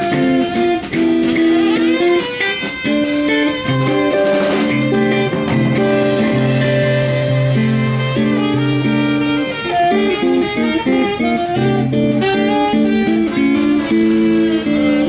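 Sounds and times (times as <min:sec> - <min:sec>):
drum kit with cymbals: 0:00.0 - 0:15.0
electric guitar lead: 0:00.0 - 0:15.0.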